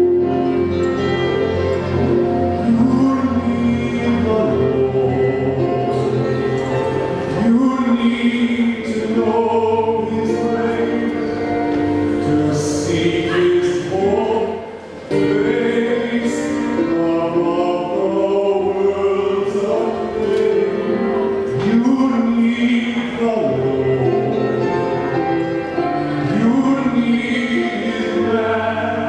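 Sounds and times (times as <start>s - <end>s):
instrumental backing music: 0.0s - 29.0s.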